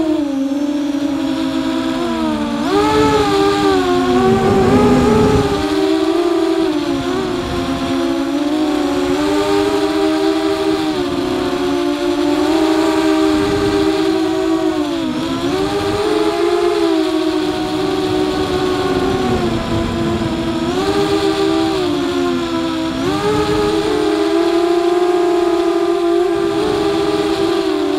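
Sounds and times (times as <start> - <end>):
drone motors whining: 0.0 - 27.9
wind noise rumble: 0.0 - 27.9.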